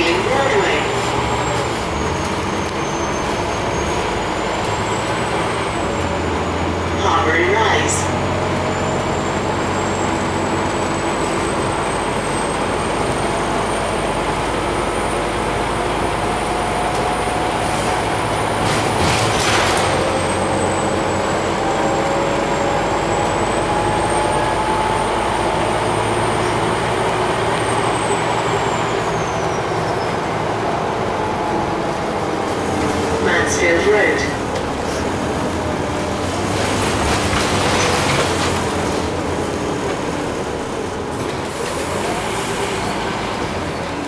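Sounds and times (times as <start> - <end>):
bus diesel engine drone: 0.0 - 44.0.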